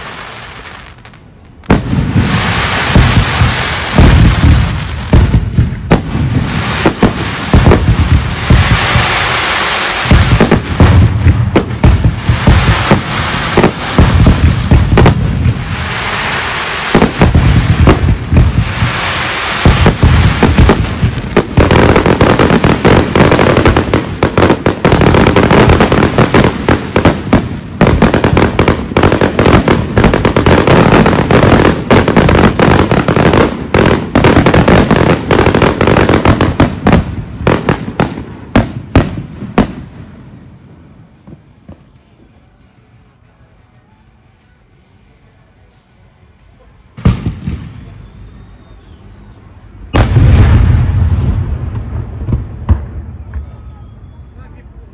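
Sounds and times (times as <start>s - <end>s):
fireworks bangs and booms: 0.0s - 42.7s, 46.9s - 54.6s
fireworks crackle: 0.0s - 54.5s.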